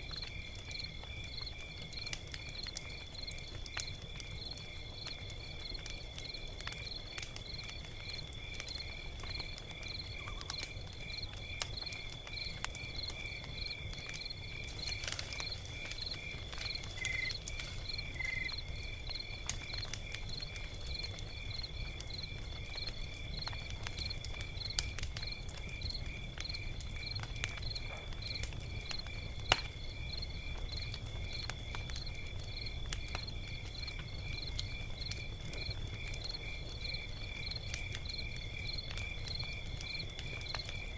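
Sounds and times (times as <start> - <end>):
crickets chirping: 0.0 - 40.9
log fire crackling: 0.0 - 40.9.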